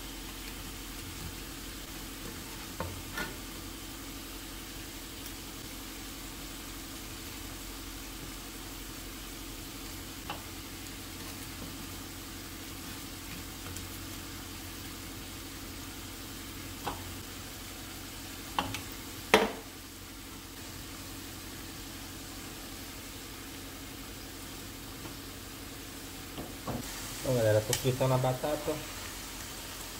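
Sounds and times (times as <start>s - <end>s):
potatoes sizzling in hot oil: 0.0s - 29.9s.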